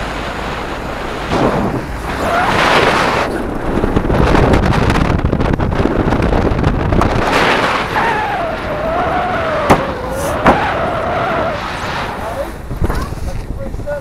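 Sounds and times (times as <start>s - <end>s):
vehicle rumble on rough track: 0.0s - 14.0s
wind buffeting microphone: 0.0s - 14.0s.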